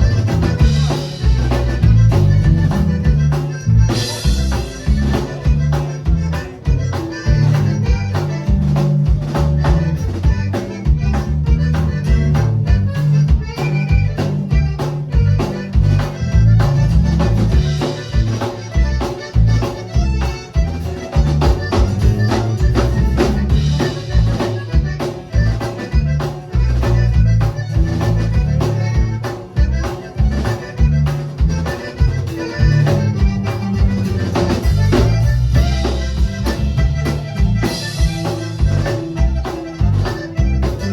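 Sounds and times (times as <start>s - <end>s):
accordion playing latin music: 0.0s - 40.9s
drums: 0.0s - 40.9s
low bass line: 0.0s - 40.9s.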